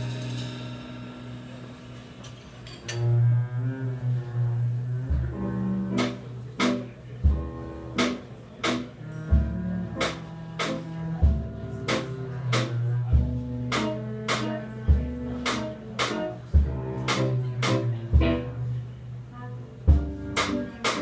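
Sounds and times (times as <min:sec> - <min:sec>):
double bass low notes: 0:00.0 - 0:02.3, 0:02.9 - 0:21.0
jazz combo playing: 0:00.0 - 0:21.0.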